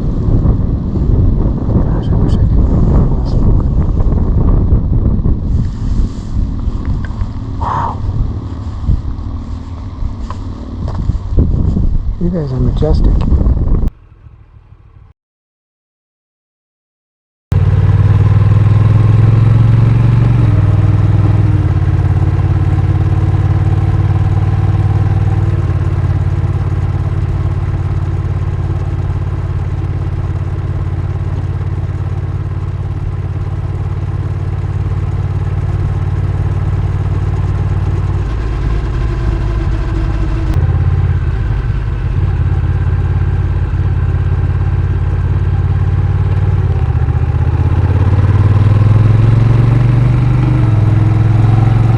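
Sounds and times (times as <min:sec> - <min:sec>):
motorcycle engine running: 0:00.0 - 0:15.1, 0:17.5 - 0:51.9.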